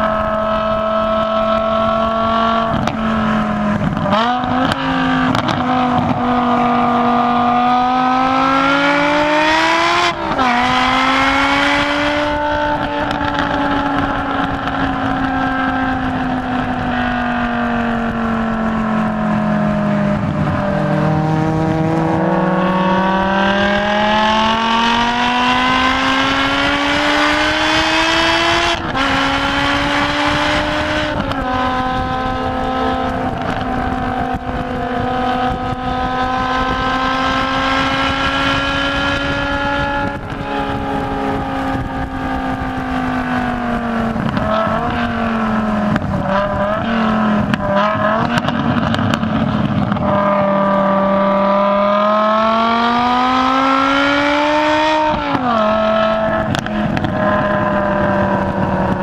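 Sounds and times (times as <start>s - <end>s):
car engine at full throttle: 0.0s - 59.0s.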